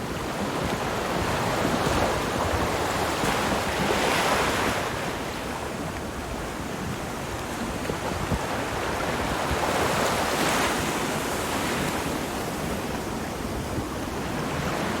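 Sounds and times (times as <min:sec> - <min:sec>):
ocean waves breaking on shore: 0:00.0 - 0:15.0
wind buffeting microphone: 0:00.0 - 0:15.0.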